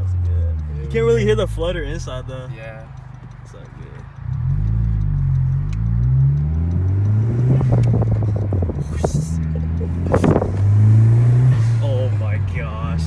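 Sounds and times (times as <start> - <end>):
run of clicks: 0.0 - 10.8
car engine revving under load: 0.0 - 13.0.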